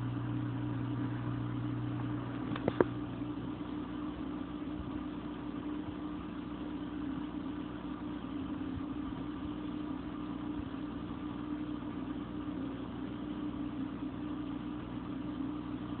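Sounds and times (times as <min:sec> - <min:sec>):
aquarium pump humming: 0:00.0 - 0:16.0.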